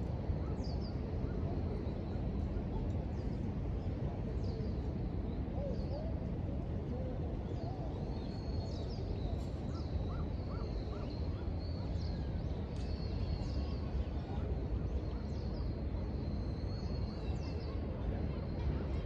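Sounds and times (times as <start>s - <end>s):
low rumble of city traffic: 0.0s - 19.0s.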